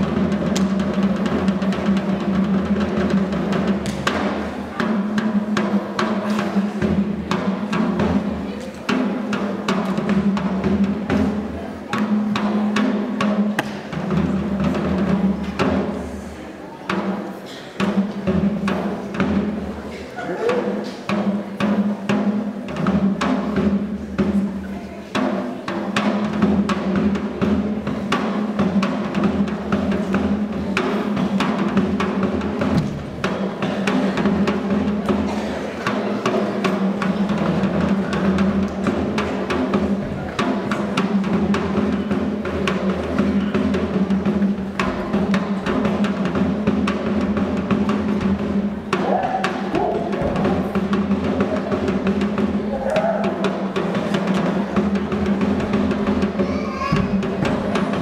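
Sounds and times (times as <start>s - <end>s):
fast dense drumming: 0.0s - 58.0s.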